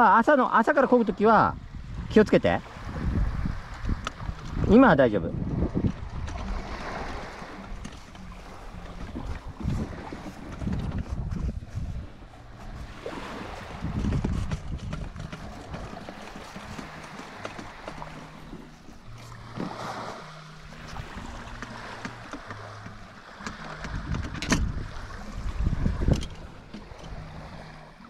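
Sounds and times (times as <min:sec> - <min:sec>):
water splashing and lapping: 0:00.0 - 0:28.0
wind gusting on microphone: 0:01.4 - 0:22.2, 0:23.5 - 0:28.0.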